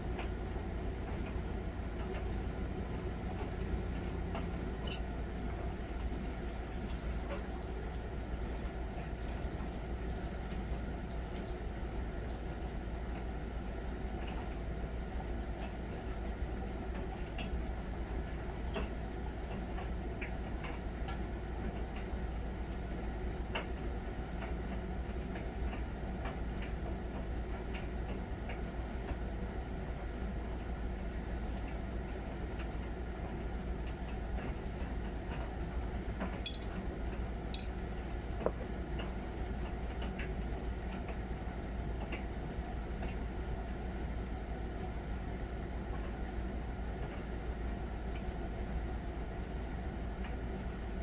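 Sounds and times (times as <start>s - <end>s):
washing machine hum: 0.0s - 51.0s.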